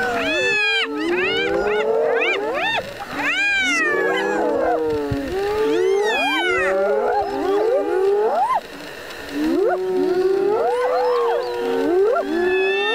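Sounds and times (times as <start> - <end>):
hyenas whooping: 0.0 - 12.9.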